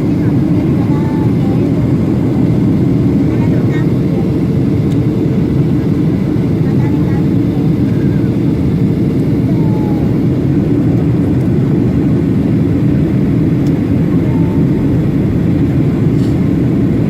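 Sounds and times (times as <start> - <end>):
jet engine drone in flight: 0.0 - 17.0.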